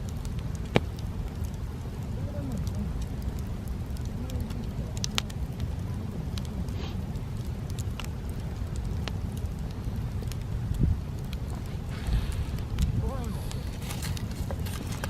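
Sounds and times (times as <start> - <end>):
sharp fire pops: 0.0 - 15.0
steady low rumble: 0.0 - 15.0
wood fire crackling: 0.0 - 15.0.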